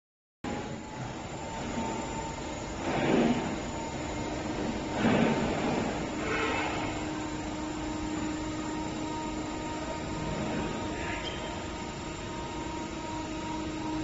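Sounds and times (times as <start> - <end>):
hydraulic pump motor humming: 0.5 - 14.0.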